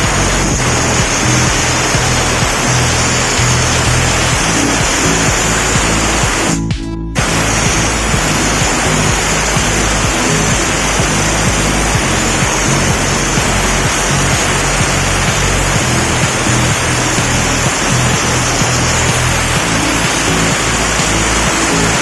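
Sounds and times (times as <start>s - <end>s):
steam-wash jet spraying hiss: 0.0s - 6.6s, 7.2s - 22.0s
background music: 0.0s - 22.0s.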